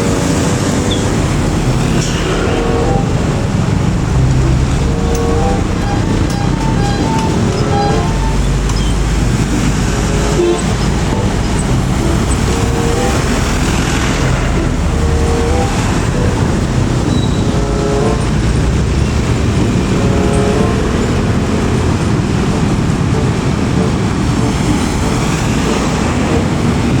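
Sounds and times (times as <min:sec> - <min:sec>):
heavy vehicles passing: 0:00.0 - 0:27.0
short pitched tones: 0:00.1 - 0:24.5.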